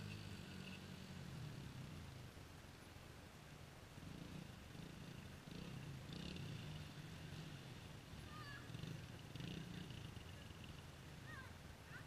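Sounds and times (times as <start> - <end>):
distant dirt bike engine: 0.0 - 2.5, 3.9 - 12.0.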